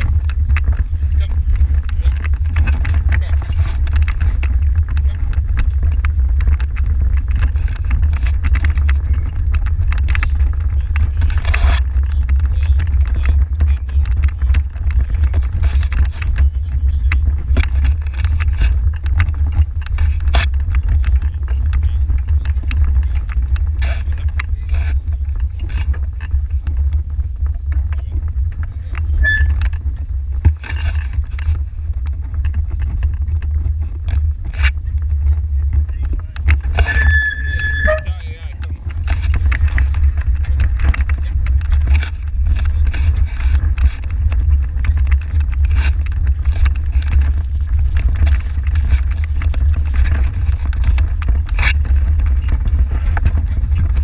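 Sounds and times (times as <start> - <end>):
carriage rolling rumble: 0.0 - 54.0.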